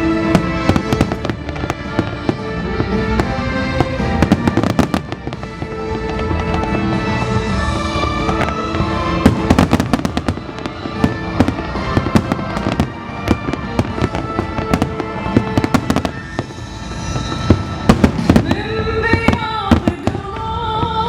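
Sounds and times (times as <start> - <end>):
fireworks bursting and crackling: 0.0 - 21.0
music playing: 0.0 - 21.0.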